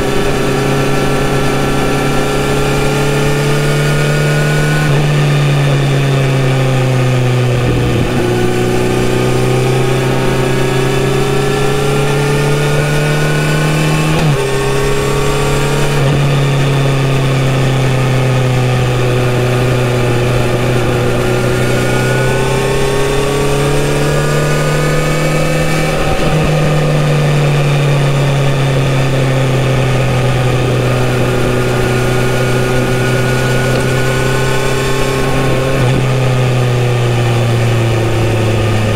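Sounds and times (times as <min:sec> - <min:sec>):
motorcycle engine changing gears: 0:00.0 - 0:38.9
wind and road noise: 0:00.0 - 0:38.9.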